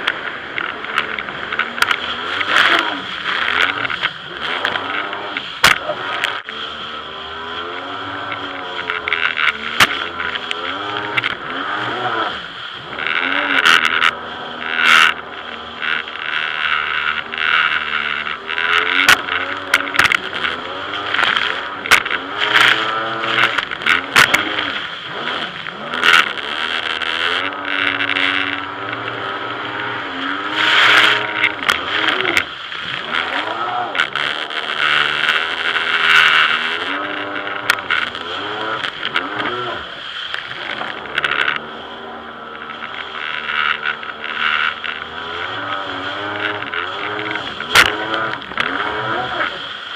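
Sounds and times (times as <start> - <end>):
jet ski engine revving: 0.0 - 49.9
water rushing and spray: 0.0 - 49.9.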